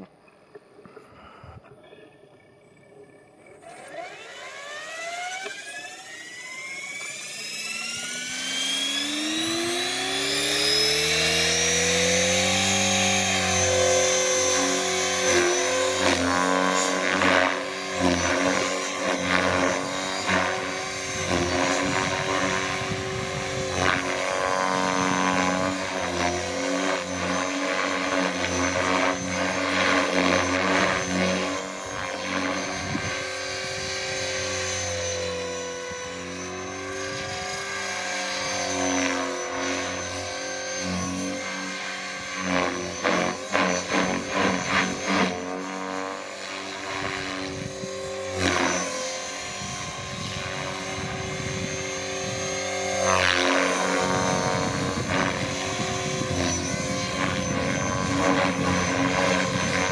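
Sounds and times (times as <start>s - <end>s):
rc helicopter motor whine and rotor: 2.7s - 59.9s.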